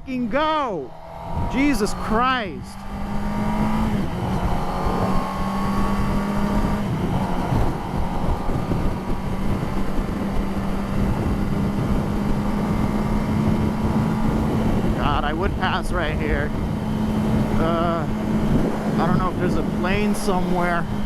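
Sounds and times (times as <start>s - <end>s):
motorcycle engine running: 0.1s - 21.0s
wind on microphone: 0.8s - 21.0s.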